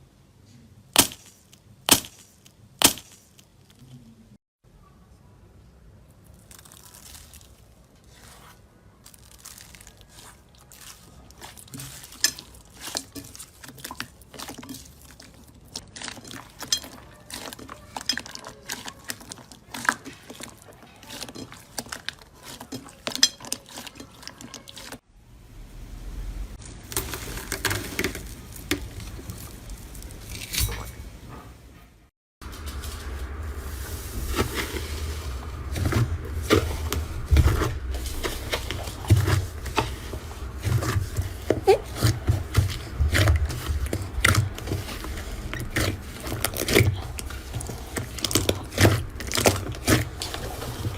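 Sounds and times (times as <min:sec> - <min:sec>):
slime squishing by hand: 0:06.1 - 0:25.0, 0:26.6 - 0:30.9, 0:32.4 - 0:50.9.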